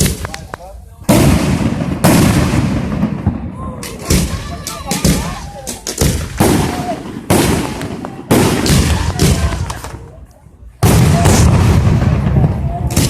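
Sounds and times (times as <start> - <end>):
fireworks bangs: 0.0 - 10.2, 10.8 - 13.0.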